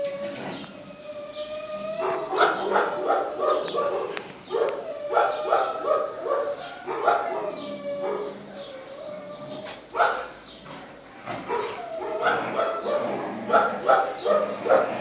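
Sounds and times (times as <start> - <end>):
puppies whining: 0.0 - 15.0
puppies yipping and barking: 0.0 - 15.0.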